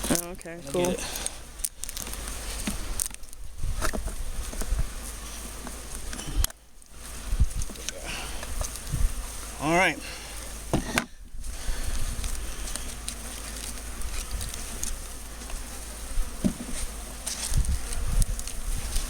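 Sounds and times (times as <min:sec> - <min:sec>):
honeybees buzzing: 0:00.0 - 0:19.0
low bumps: 0:01.0 - 0:19.0.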